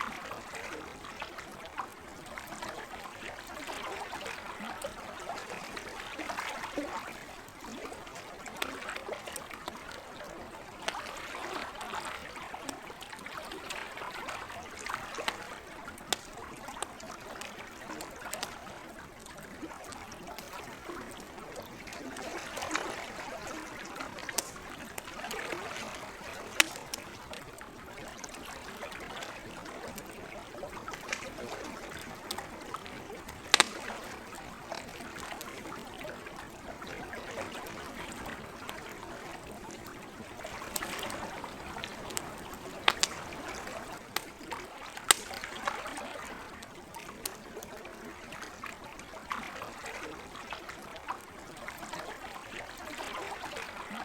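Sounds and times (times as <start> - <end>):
lake water lapping: 0.0 - 54.0
campfire crackling and popping: 1.8 - 48.7.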